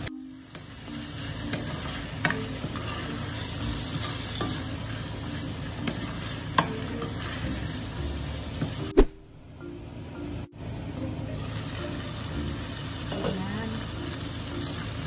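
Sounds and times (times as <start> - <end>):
food sizzling in a frying pan: 0.0 - 9.0, 10.6 - 15.0.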